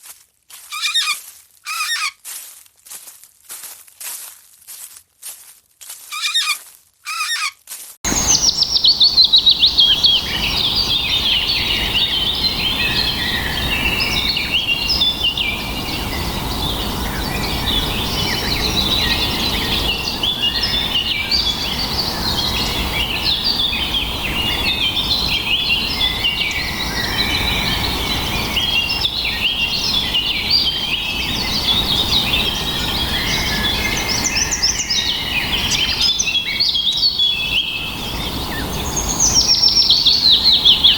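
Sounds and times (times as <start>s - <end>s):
birds chirping and trilling: 0.7s - 2.1s, 6.2s - 7.5s, 8.1s - 40.9s.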